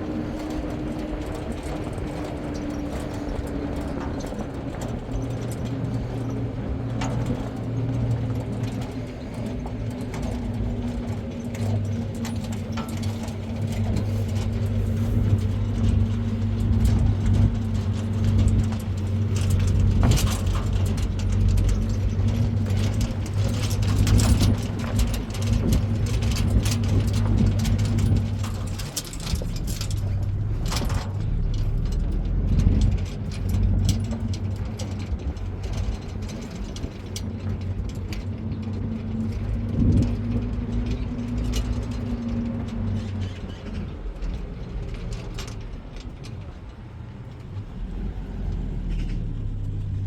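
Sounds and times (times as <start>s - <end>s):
clicks and rattles: 0.0s - 50.0s
motor engine humming: 0.0s - 50.0s.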